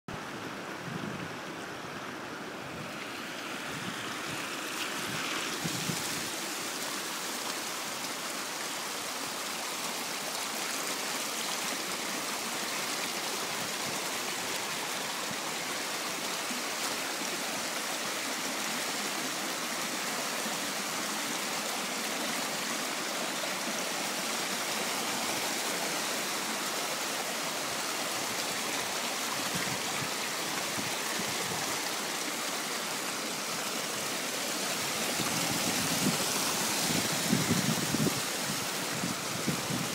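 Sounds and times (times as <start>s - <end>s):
rainwater rushing down a lane: 0.1s - 39.9s.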